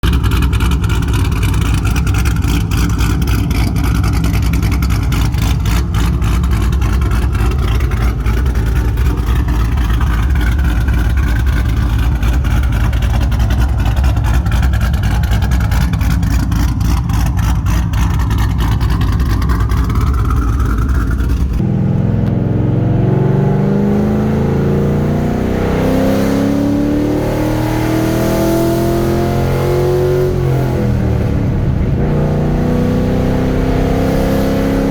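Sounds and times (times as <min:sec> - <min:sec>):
vee eight exhaust rumble: 0:00.0 - 0:34.9.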